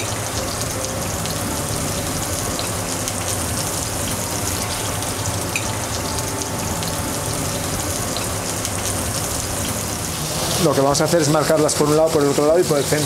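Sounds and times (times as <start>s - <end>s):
prawns sizzling in oil: 0.0s - 13.0s.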